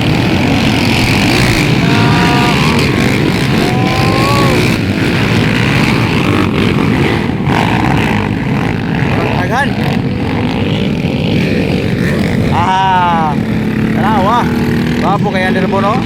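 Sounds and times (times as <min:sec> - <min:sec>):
motorcycle engines revving high: 0:00.0 - 0:16.0.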